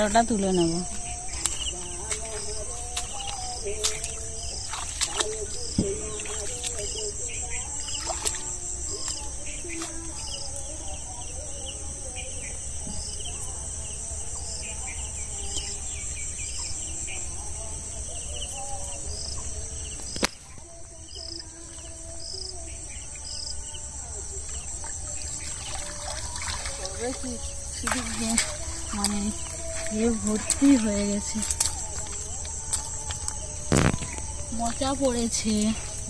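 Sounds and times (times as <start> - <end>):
crickets and insects buzzing: 0.0 - 36.0.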